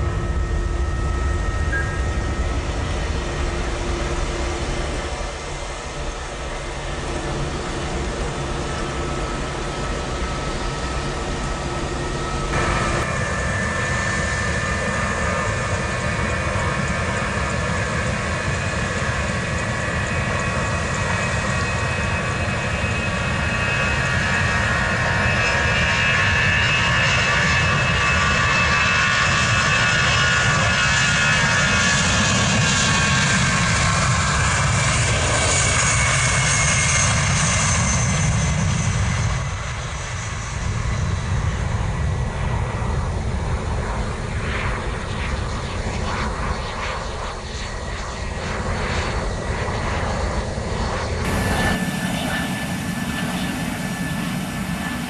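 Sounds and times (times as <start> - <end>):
jet engines rushing and whining: 0.0 - 55.0.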